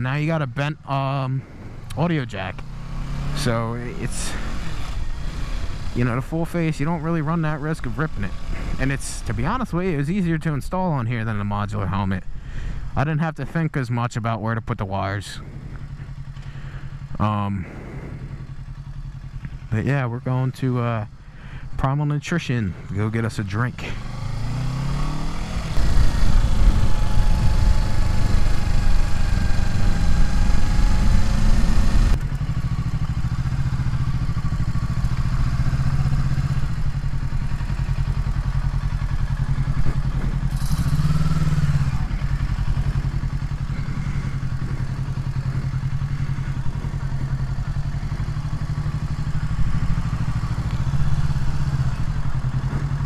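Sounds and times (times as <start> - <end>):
motorcycle engine running: 0.0 - 13.6, 15.1 - 53.0.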